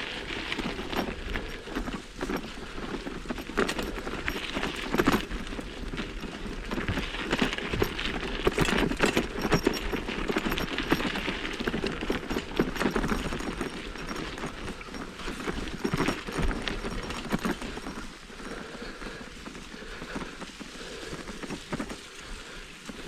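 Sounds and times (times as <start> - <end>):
mountain bike clattering on trail: 0.0 - 23.0.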